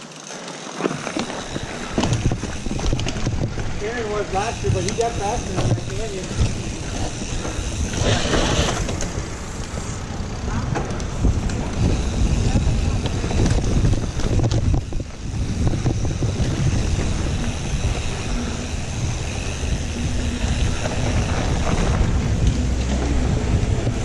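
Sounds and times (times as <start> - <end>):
bike tyres rumbling on dirt: 0.0 - 24.0
wind buffeting microphone: 1.3 - 24.0.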